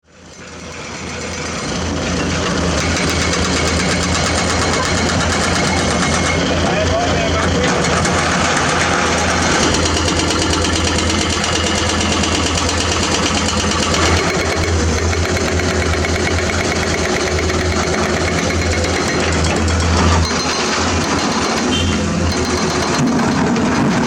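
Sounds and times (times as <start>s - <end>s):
diesel engine running: 0.1s - 24.0s.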